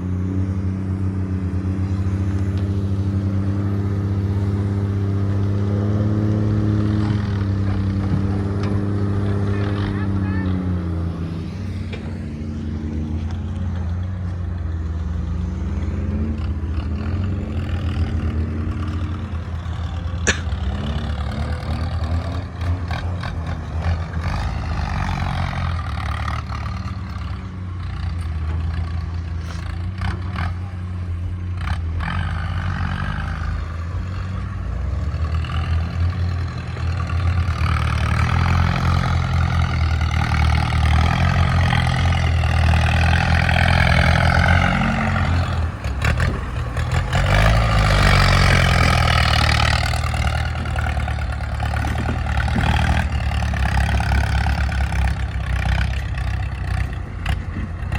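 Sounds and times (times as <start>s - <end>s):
excavator diesel engine working: 0.0s - 57.9s.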